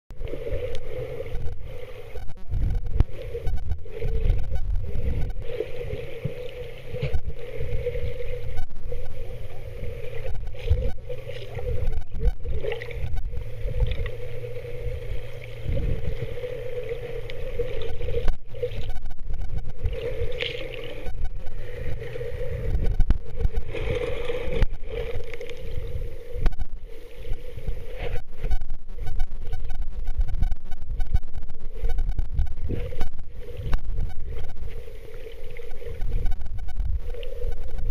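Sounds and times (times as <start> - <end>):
steady underwater drone: 0.1 - 37.9
underwater rumble of moving water: 0.1 - 37.9.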